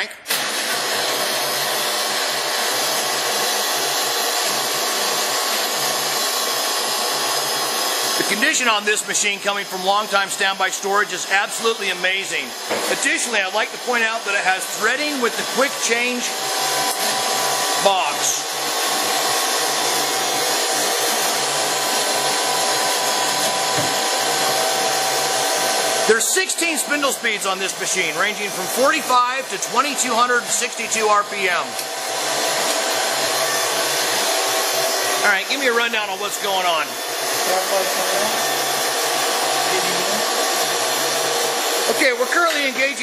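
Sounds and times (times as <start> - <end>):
lathe running with steady whir: 0.3 - 43.0.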